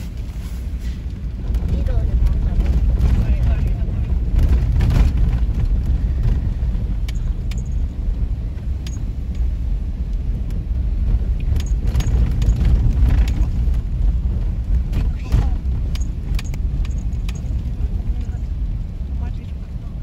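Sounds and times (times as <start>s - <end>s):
tyres rumbling on snowy road: 0.0s - 20.0s
car interior rattles and knocks: 1.3s - 9.6s, 10.2s - 20.0s.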